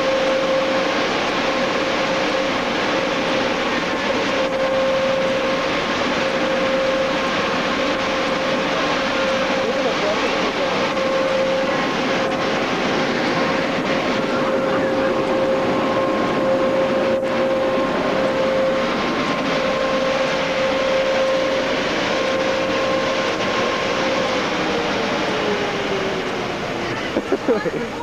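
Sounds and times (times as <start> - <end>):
car wash dryer blowers: 0.0 - 28.0.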